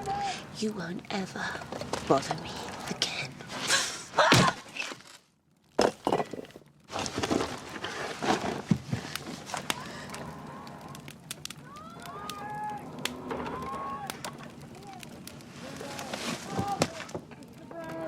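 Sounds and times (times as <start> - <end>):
rubble crashing: 0.0 - 18.0
knocks of shifting debris: 1.4 - 18.0.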